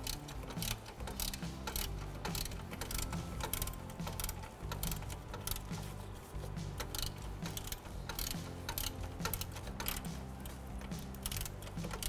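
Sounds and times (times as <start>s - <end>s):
socket ratchet clicking: 0.0s - 5.8s, 6.8s - 12.0s.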